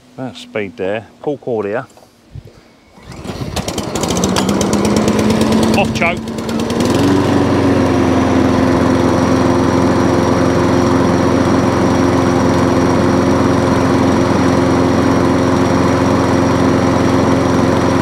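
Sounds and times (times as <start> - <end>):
lawn mower engine running: 2.9 - 18.0.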